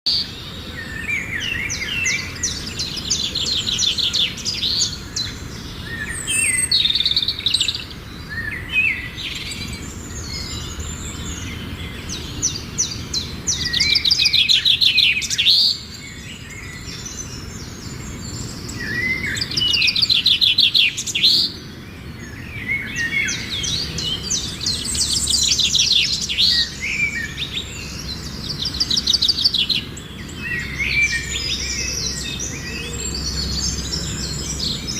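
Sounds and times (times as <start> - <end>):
small birds singing: 0.0 - 34.9.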